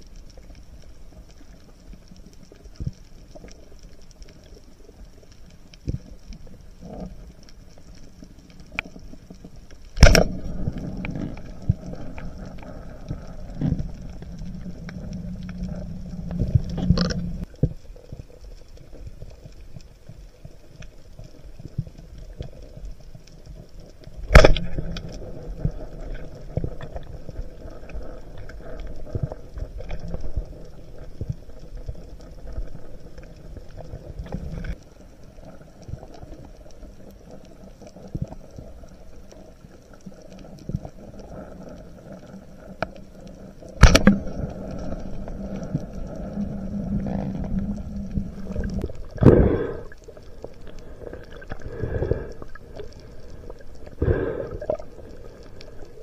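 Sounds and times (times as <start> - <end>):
faint clicks: 0.0 - 56.0
underwater water rumble: 0.0 - 56.0.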